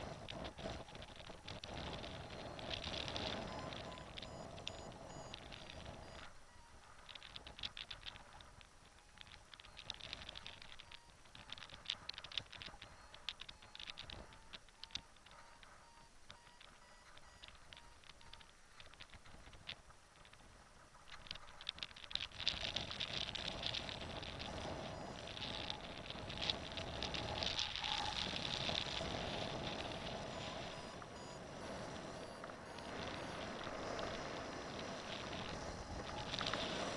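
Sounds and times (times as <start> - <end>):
light clicks and ticks: 0.0 - 36.9
wind rushing over camera: 0.0 - 36.9.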